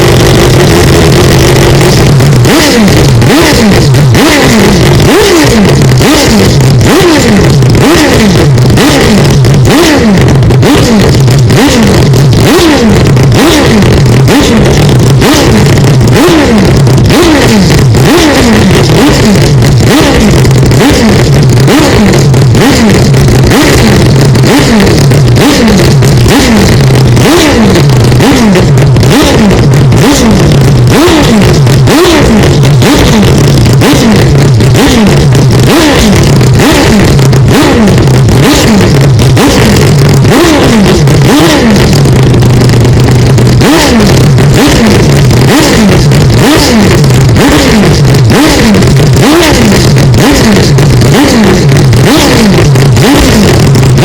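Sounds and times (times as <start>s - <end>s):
rotary engine revving: 0.0s - 54.0s.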